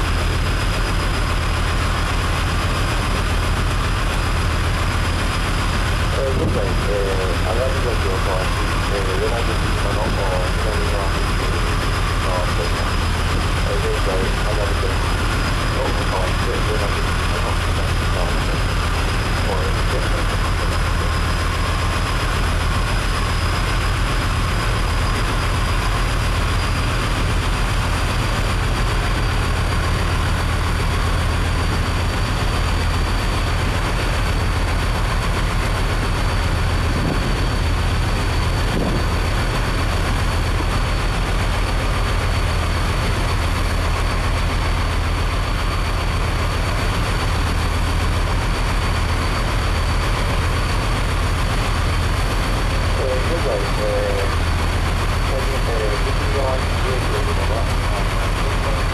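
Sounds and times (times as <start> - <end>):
ship engines humming: 0.0 - 58.9.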